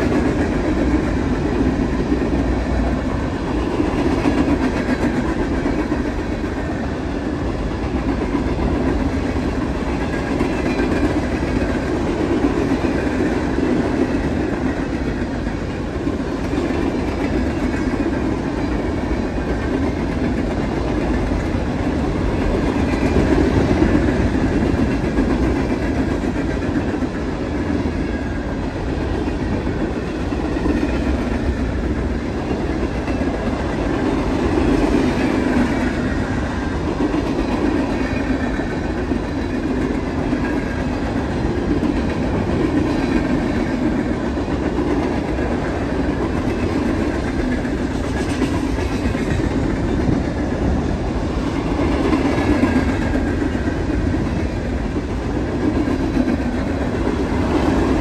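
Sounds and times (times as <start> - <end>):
train wheels clattering over rails: 0.0 - 58.0.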